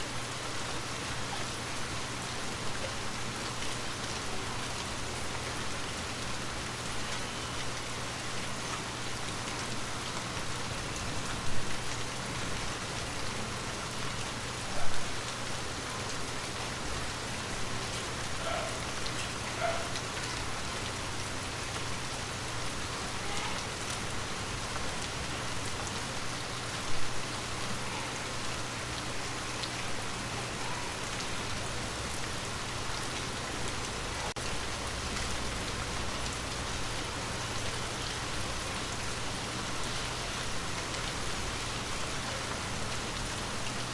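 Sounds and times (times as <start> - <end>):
light rain on window glass: 0.0 - 43.9.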